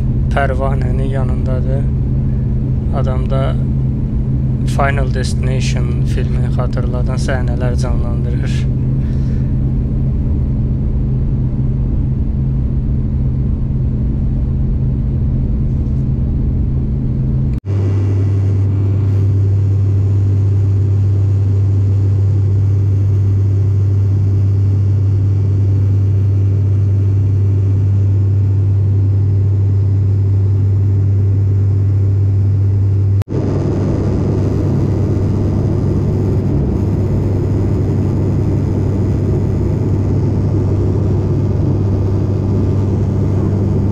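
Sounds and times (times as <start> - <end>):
propeller engines droning: 0.0 - 43.9.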